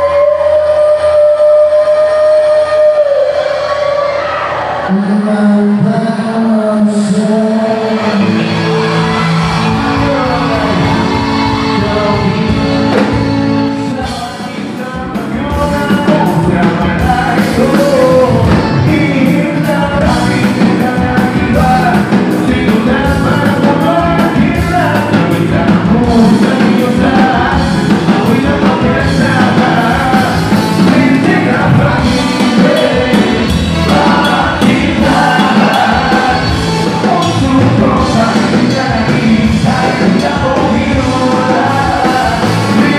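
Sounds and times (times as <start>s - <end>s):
drums: 0.0s - 42.9s
lead singer singing: 0.0s - 42.9s
rock band playing: 0.0s - 42.9s.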